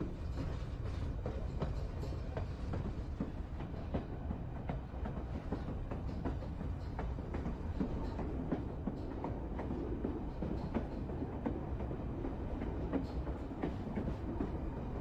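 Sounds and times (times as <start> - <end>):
railway car rumbling: 0.0 - 15.0.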